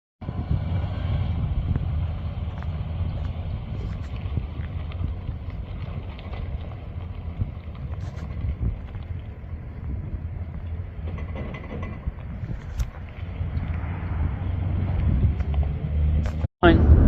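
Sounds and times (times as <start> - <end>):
pickup engine drone: 0.2 - 17.0
road and wind noise: 0.2 - 17.0.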